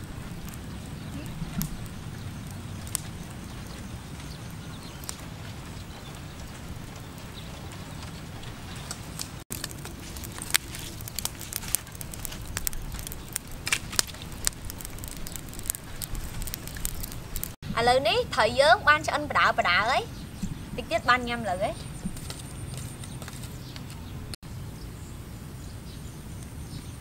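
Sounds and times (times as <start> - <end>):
charcoal fire crackling: 0.0 - 24.4
steady low rumble: 0.0 - 27.0.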